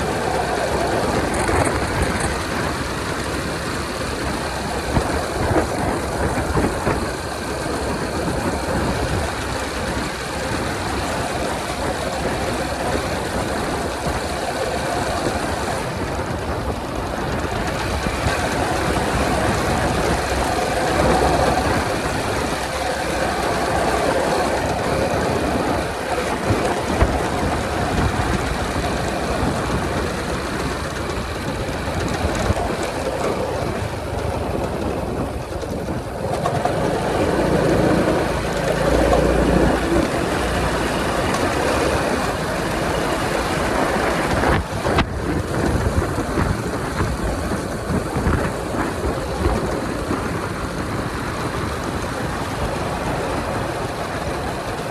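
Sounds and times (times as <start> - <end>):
wind and road noise riding: 0.0 - 54.9.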